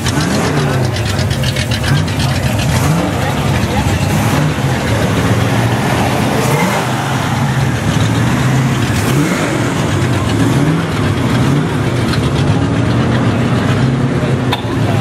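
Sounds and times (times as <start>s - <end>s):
car engine with throttle blips: 0.0s - 15.0s.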